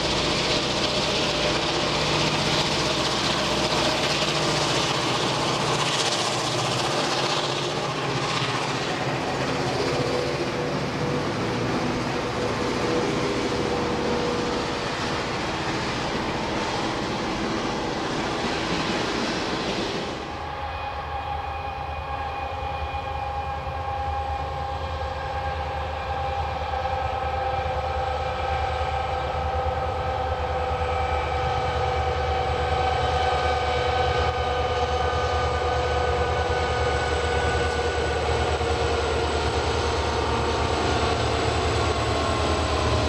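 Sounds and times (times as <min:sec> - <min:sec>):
diesel locomotive engine: 0:00.0 - 0:43.0.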